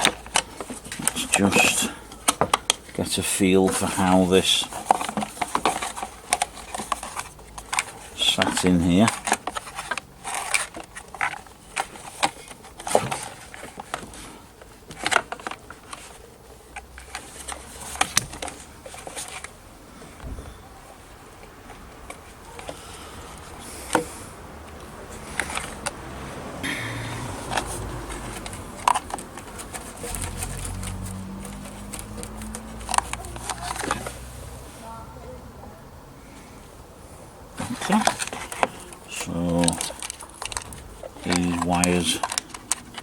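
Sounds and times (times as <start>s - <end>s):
parts clicking and knocking: 0.0s - 20.6s, 21.4s - 34.3s, 37.6s - 43.0s.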